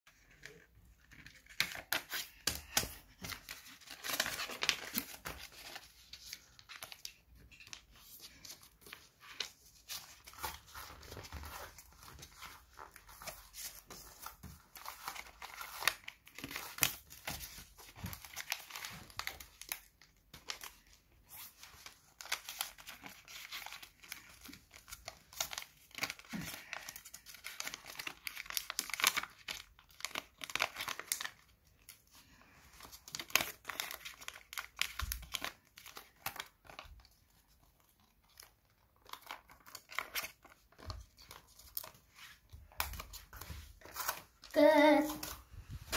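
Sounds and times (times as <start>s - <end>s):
paper crinkling and rustling: 0.1s - 45.9s.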